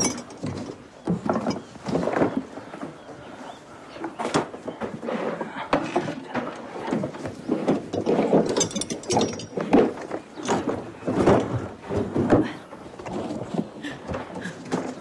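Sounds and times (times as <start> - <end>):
objects and furniture being handled: 0.0 - 15.0.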